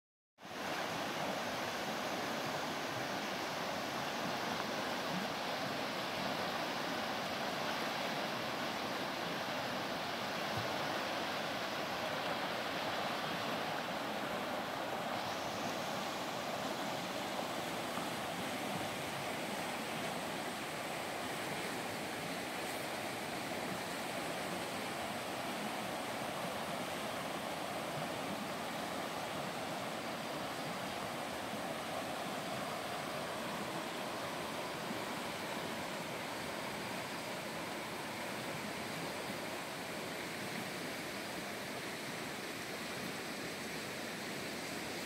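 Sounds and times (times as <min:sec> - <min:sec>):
river rapids rushing over rocks: 0:00.4 - 0:45.0.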